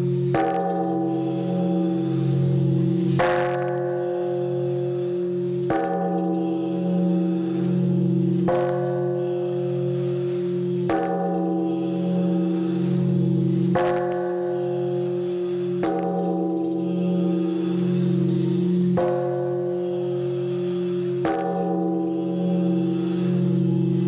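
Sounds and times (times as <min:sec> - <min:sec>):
large temple bell ringing: 0:00.0 - 0:24.0.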